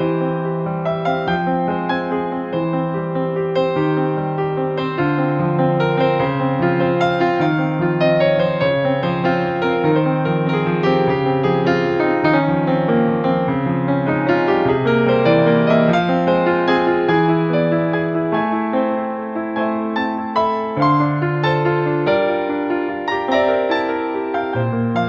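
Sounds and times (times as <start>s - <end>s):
piano playing notes: 0.0s - 25.0s.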